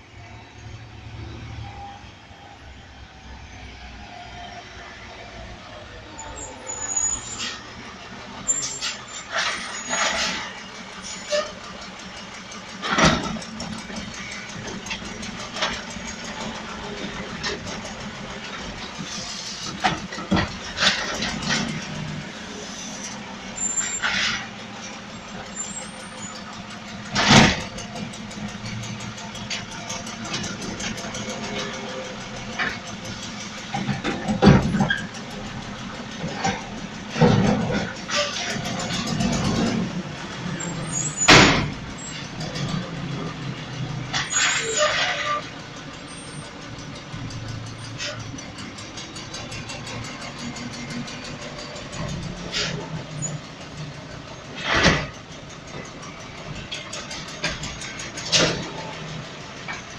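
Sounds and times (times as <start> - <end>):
garbage truck engine running: 0.0 - 59.9.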